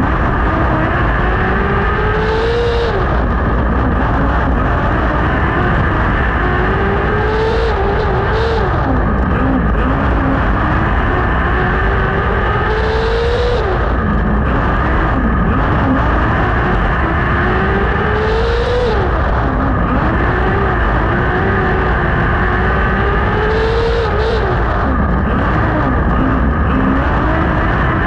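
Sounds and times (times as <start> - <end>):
race car engine accelerating: 0.0 - 28.0.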